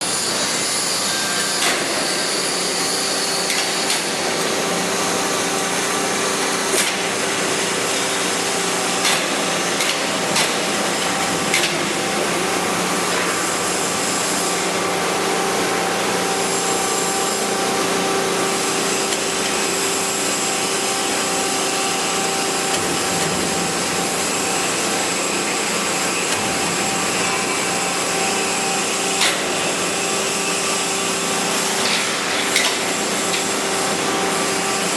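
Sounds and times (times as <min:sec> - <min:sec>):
bending machine hum and hiss: 0:00.0 - 0:34.9.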